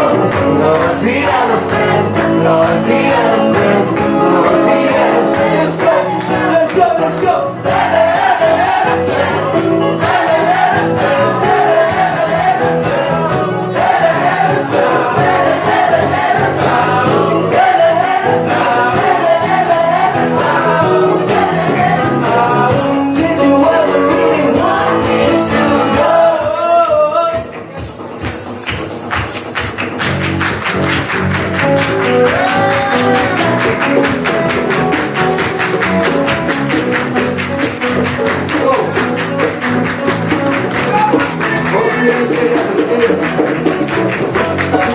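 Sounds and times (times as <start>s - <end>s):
band playing live: 0.0s - 44.9s.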